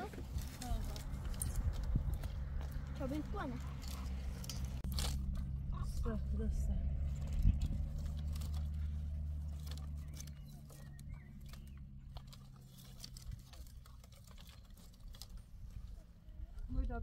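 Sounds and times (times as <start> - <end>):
dry twigs crackling: 0.0 - 17.0
low steady rumble: 0.0 - 17.0.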